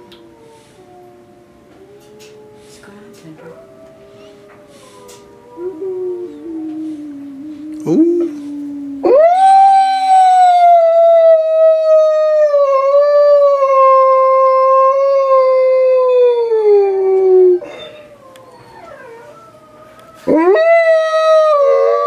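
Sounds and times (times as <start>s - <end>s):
wolfdog howling: 3.4s - 22.0s.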